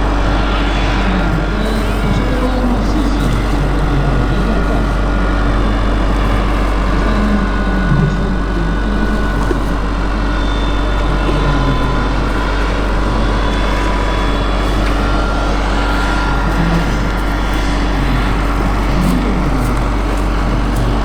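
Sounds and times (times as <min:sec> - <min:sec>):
model helicopter rotor and motor: 0:00.0 - 0:21.0.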